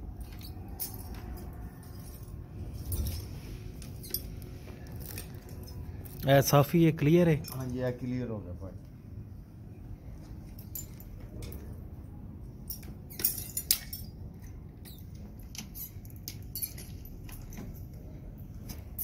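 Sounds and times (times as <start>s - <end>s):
metal parts clinking: 0.0s - 7.9s, 10.5s - 11.8s, 12.6s - 19.0s.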